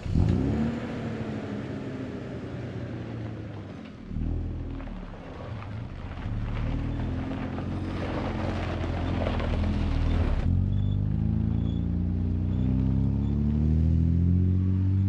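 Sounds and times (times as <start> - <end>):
car engine accelerating: 0.0 - 15.0
rough road or wind noise: 0.0 - 15.0.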